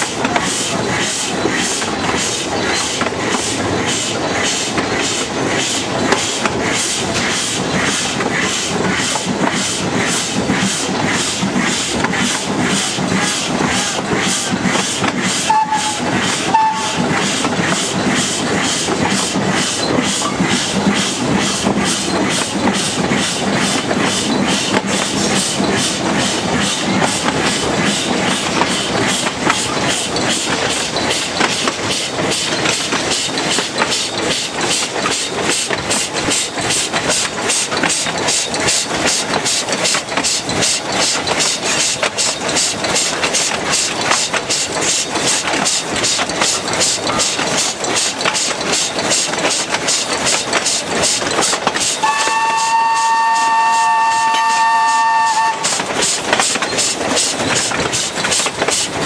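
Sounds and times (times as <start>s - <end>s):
wheels clattering over rail joints: 0.0s - 53.3s, 54.0s - 59.0s
diesel locomotive engine running: 0.0s - 59.0s.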